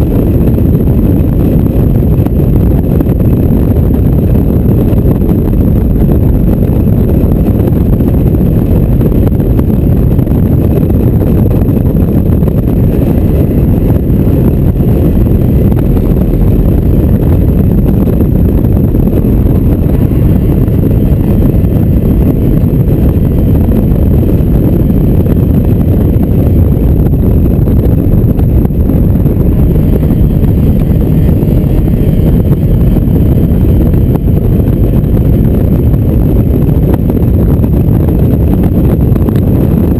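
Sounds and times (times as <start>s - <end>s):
car engine running: 0.0s - 39.9s
wind buffeting microphone: 0.0s - 39.9s.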